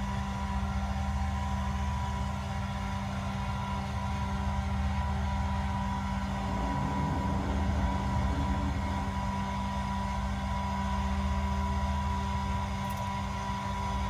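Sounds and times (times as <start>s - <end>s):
low ship machinery hum: 0.0s - 14.0s.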